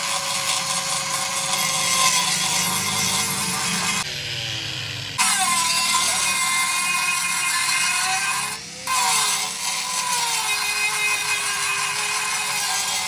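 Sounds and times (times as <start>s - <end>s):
power tool on metal: 0.0s - 13.0s.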